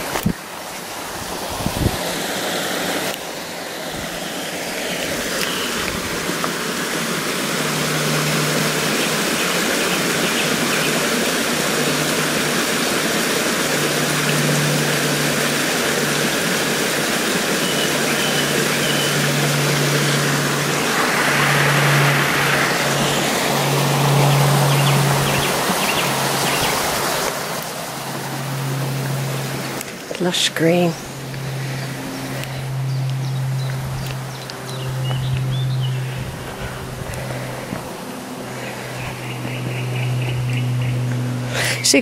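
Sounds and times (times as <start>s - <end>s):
brook babbling over rocks: 0.0s - 40.4s.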